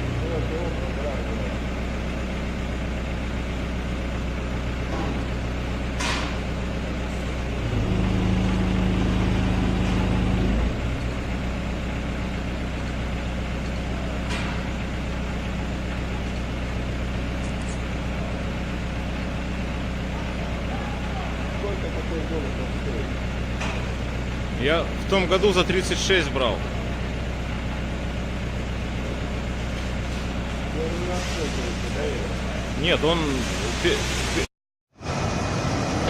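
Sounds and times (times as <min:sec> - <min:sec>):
heavy vehicle engine revving: 0:00.0 - 0:36.0.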